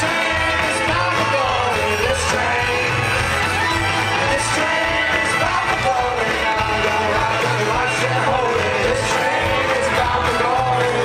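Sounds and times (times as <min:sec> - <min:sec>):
bass line: 0:00.0 - 0:11.0
live band music: 0:00.0 - 0:11.0
person singing: 0:00.0 - 0:11.0.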